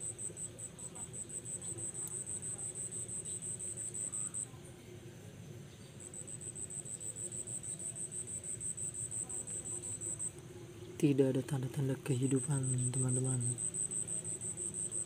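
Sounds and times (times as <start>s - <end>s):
insect chirping: 0.0s - 4.6s, 5.9s - 10.4s, 12.0s - 15.0s.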